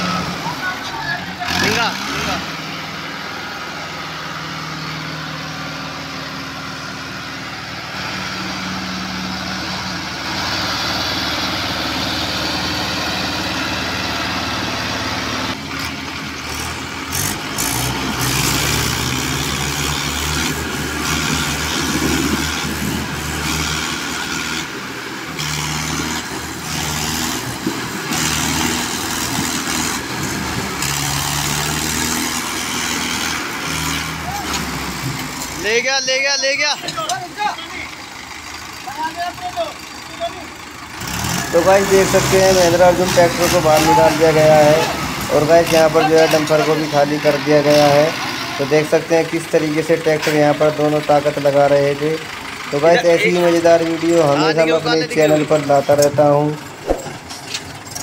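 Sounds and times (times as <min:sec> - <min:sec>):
tractor diesel engines under load: 0:00.0 - 0:58.0.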